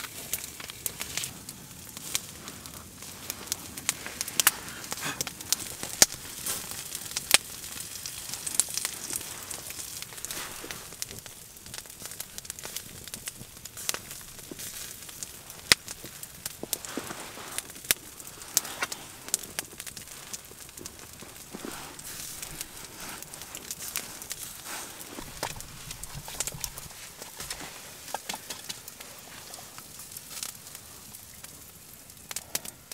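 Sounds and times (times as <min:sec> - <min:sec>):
low steady hiss: 0:00.0 - 0:32.9
wood fire crackling: 0:00.0 - 0:32.9.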